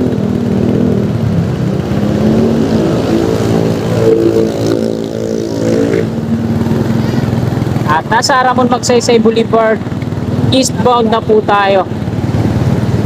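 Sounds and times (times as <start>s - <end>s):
road traffic: 0.0s - 13.0s
vehicle engine running: 0.0s - 13.0s.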